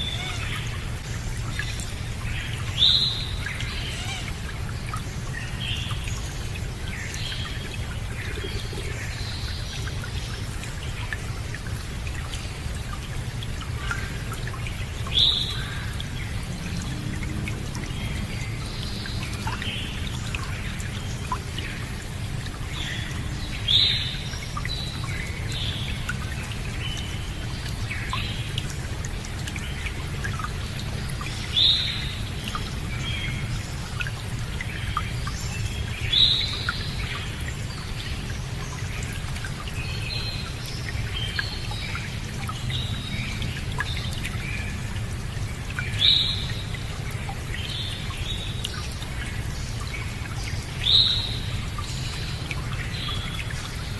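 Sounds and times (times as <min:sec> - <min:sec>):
flowing water: 0:00.0 - 0:53.9.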